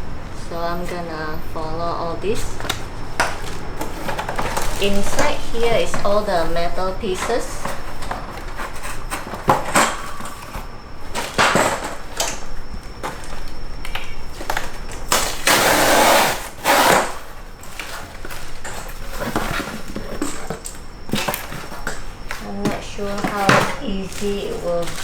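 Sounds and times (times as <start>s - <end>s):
parts knocking and clattering: 0.0s - 25.0s
rustling: 0.0s - 25.0s.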